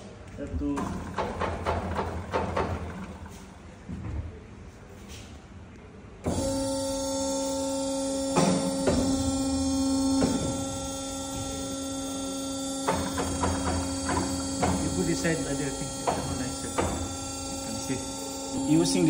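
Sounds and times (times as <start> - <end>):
milling machine motor hum: 0.8 - 3.6, 6.3 - 19.0.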